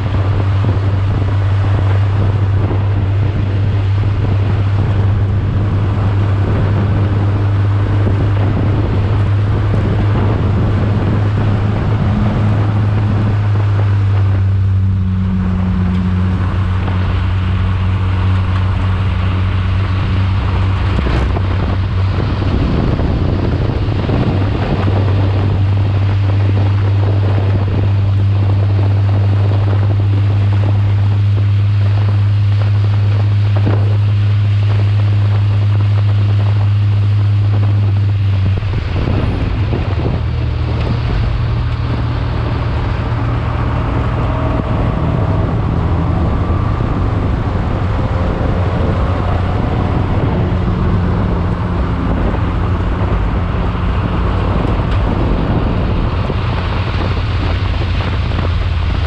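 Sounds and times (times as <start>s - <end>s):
race car engine running hard: 0.0s - 59.0s
wind rushing over microphone: 0.0s - 59.0s.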